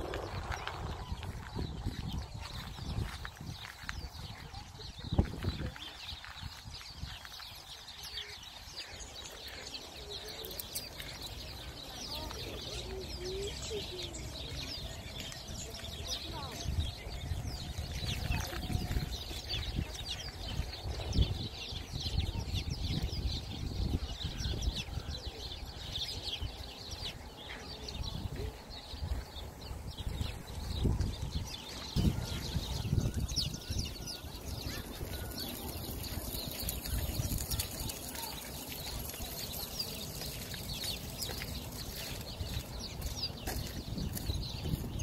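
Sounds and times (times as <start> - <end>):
sparrows chirping: 0.0 - 45.0.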